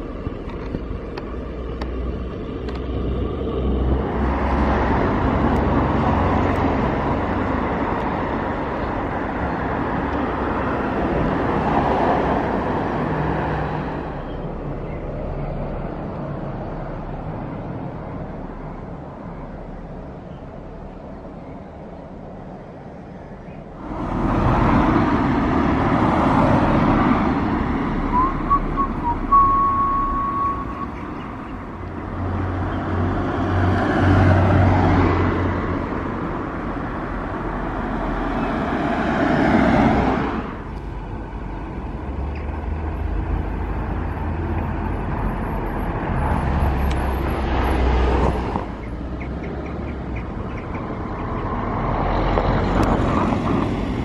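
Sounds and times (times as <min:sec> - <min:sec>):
cars driving past: 0:00.0 - 0:54.0.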